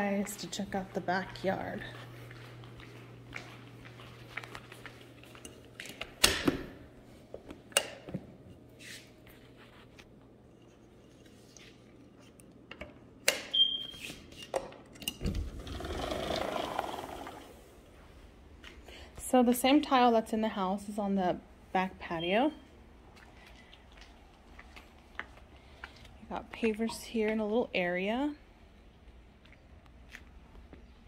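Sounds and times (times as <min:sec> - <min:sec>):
steady low hum: 0:00.0 - 0:13.2, 0:16.6 - 0:31.0.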